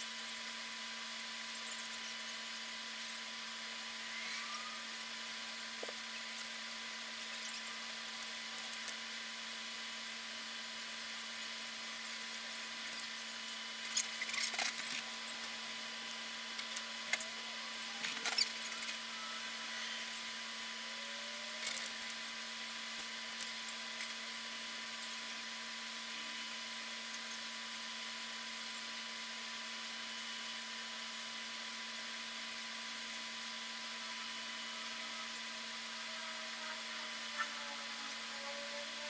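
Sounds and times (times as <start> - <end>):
electrical hiss and hum: 0.0 - 39.0.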